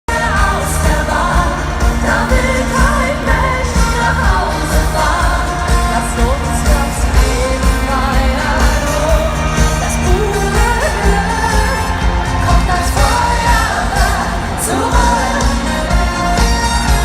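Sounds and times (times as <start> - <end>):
woman singing pop melody: 0.1 - 17.0.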